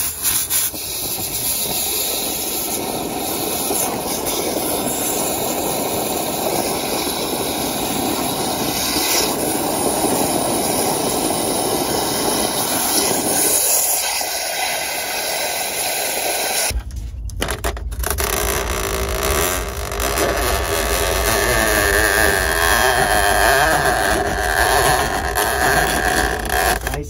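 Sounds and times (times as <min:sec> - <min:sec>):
water pouring from pipe: 0:00.0 - 0:16.7, 0:18.5 - 0:27.0
drain-cleaning machine running: 0:01.7 - 0:16.7, 0:18.2 - 0:27.0.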